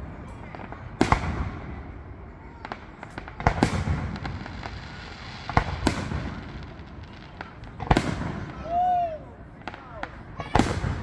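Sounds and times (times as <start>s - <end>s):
fireworks bangs with echo: 0.0s - 11.0s
fireworks pops and crackles: 0.0s - 11.0s.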